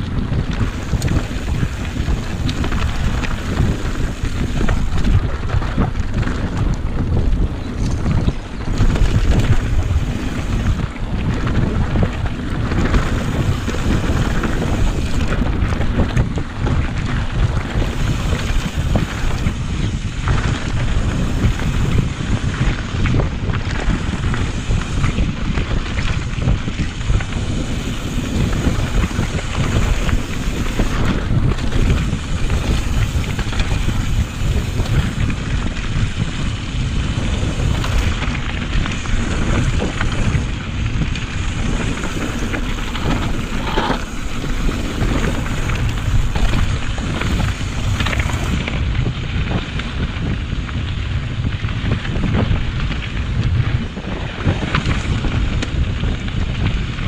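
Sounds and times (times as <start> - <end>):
bike rattling and knocking: 0.0 - 57.0
bike tyres rolling on dirt: 0.0 - 57.0
wind buffeting microphone: 0.0 - 57.0.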